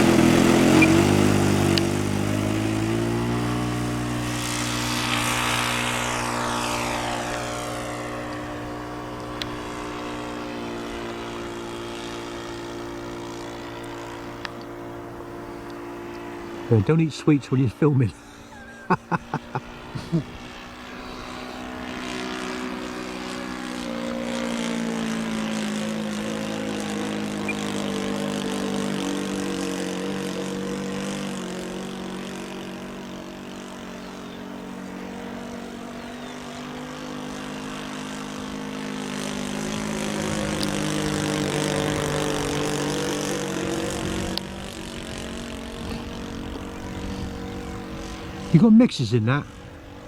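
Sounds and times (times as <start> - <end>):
model plane engine buzzing: 0.0 - 50.0.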